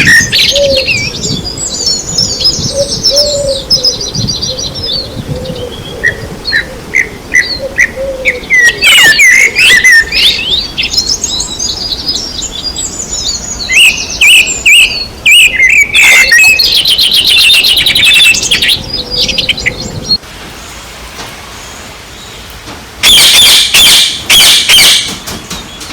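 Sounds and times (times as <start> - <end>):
songbirds singing: 0.0 - 20.8, 21.4 - 25.9.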